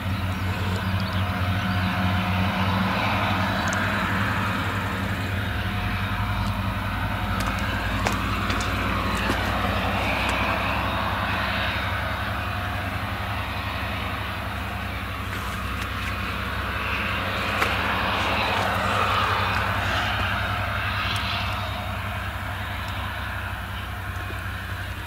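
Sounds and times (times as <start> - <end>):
forage harvester engine drone: 0.0 - 25.0
truck engine: 0.0 - 25.0.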